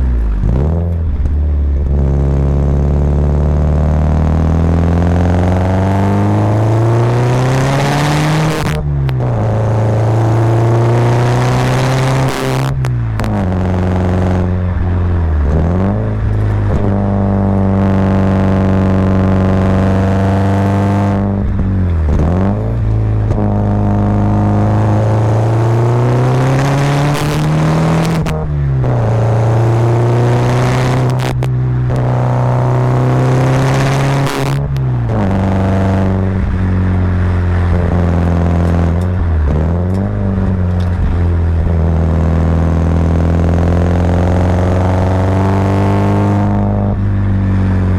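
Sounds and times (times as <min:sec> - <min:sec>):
turbocharged car engine under load: 0:00.0 - 0:47.9.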